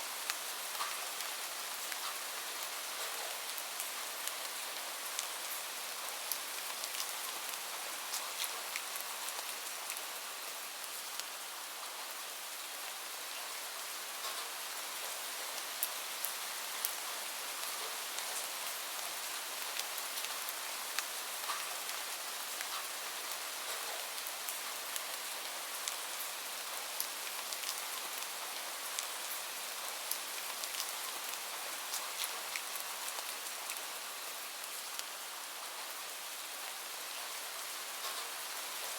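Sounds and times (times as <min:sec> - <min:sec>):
gentle rain hiss: 0:00.0 - 0:38.9.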